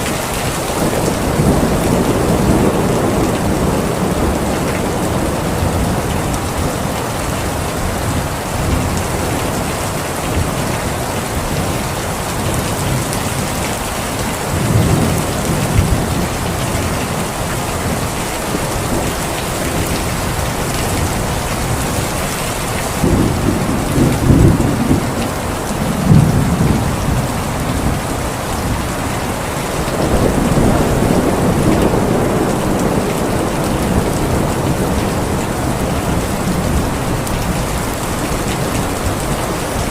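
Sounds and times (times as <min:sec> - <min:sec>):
steady rain falling: 0:00.0 - 0:39.9
low thunder rumbling: 0:00.4 - 0:39.9.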